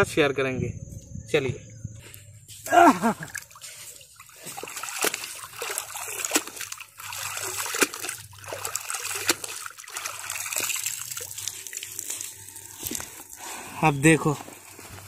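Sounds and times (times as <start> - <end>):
water splashing and sloshing: 2.6 - 15.0
water trickling from bag: 2.8 - 15.0.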